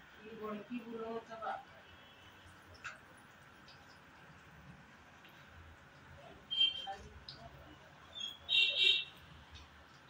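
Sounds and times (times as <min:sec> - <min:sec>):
fritters sizzling in hot oil: 0:00.0 - 0:10.0.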